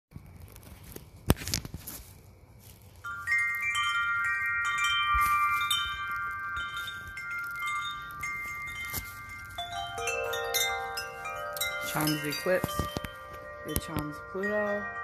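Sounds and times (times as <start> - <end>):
metal tube wind chimes: 2.9 - 15.0.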